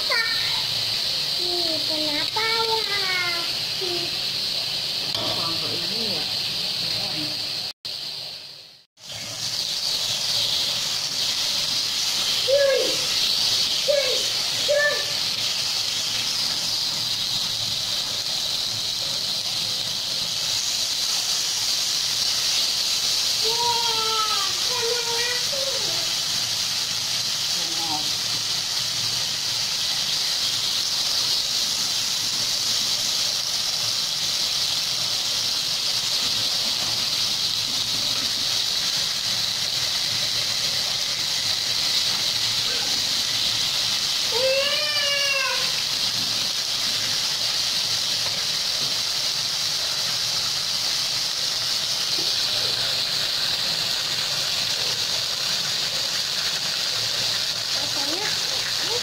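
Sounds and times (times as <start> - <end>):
beef sizzling on a griddle: 0.0 - 59.0.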